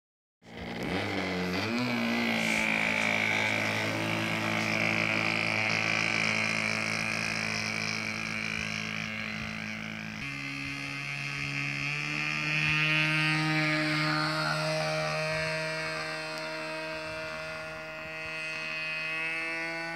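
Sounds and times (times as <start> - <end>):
model airplane engine running: 0.4 - 19.9.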